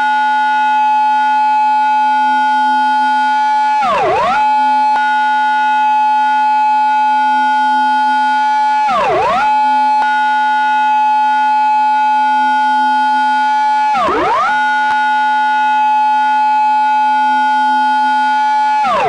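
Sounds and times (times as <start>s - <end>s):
police car siren: 0.0s - 19.0s.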